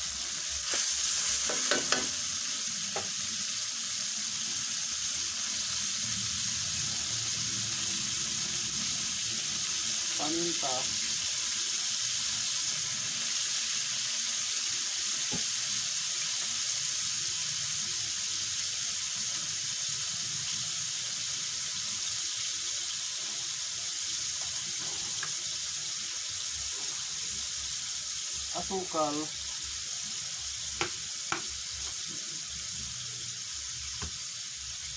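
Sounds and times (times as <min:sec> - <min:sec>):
liquid simmering in a wok: 0:00.0 - 0:34.9.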